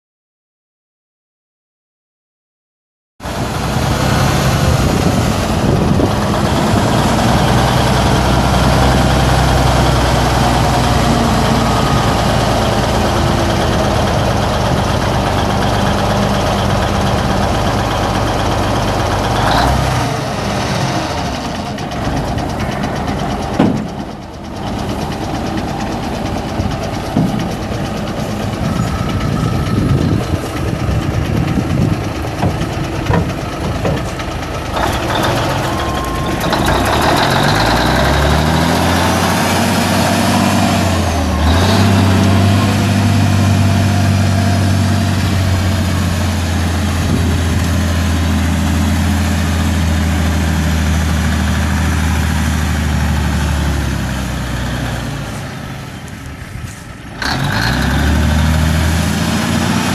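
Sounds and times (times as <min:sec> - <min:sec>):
diesel truck engine running: 0:03.2 - 0:59.9.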